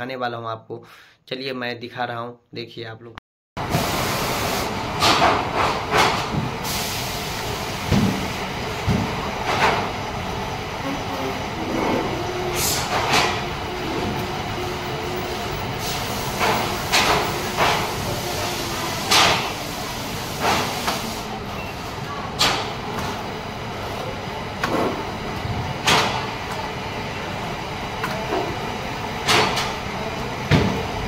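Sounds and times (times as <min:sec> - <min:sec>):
machinery hum: 0:03.6 - 0:31.0.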